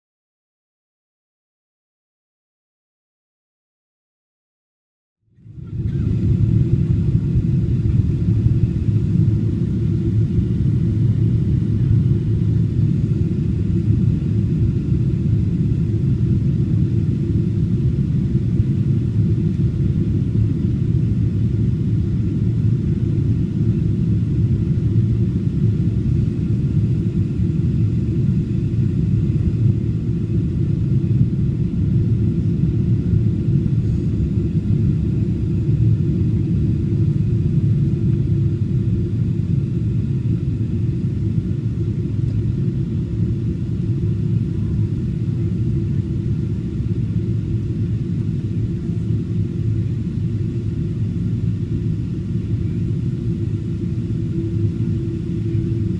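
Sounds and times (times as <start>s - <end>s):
low rumble of jet engines: 5.2s - 55.9s
faint steady whine: 5.4s - 55.9s.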